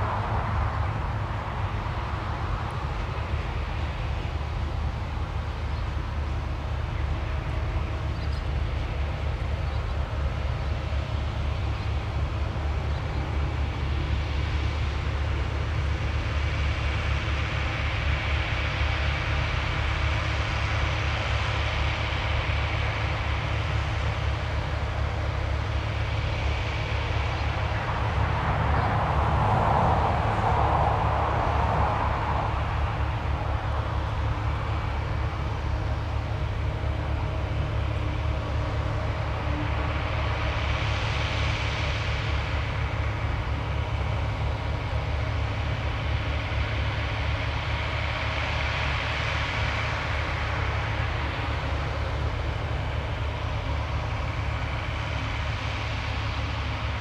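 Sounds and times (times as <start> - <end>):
distant engine noise: 0.0 - 57.0
hissing engine sound: 0.0 - 57.0
steady low rumble: 0.0 - 57.0.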